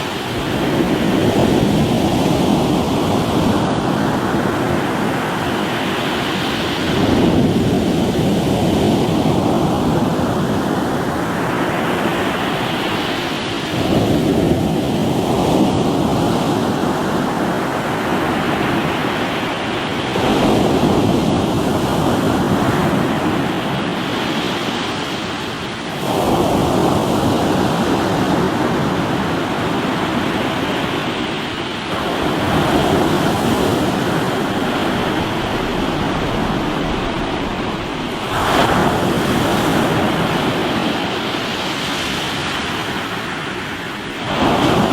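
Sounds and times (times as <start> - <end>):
waves breaking on rocky shore: 0.0 - 44.9.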